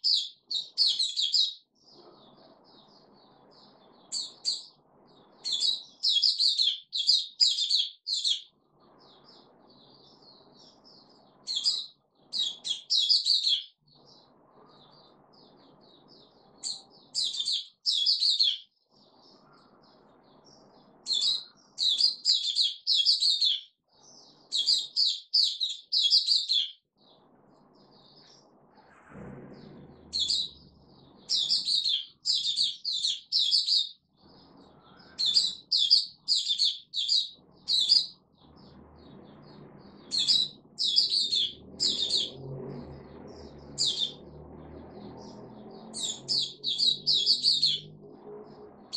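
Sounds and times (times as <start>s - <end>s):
songbird chirping: 0.0s - 48.9s.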